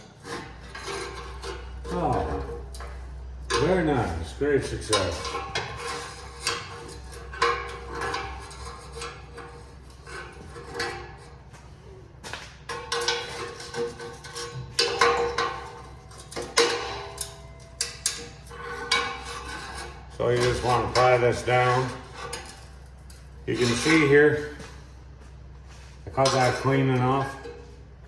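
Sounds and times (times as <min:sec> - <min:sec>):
hand tools clinking on metal: 0:00.2 - 0:11.0, 0:12.7 - 0:24.7, 0:26.1 - 0:27.7.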